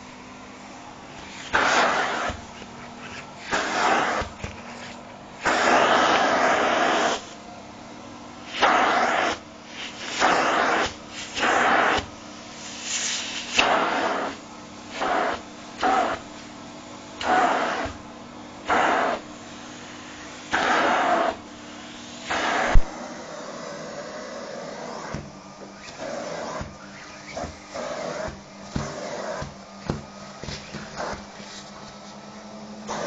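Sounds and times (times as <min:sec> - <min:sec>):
vacuum cleaner motor humming: 0:00.0 - 0:33.0
vacuum nozzle sucking fabric: 0:00.0 - 0:33.0.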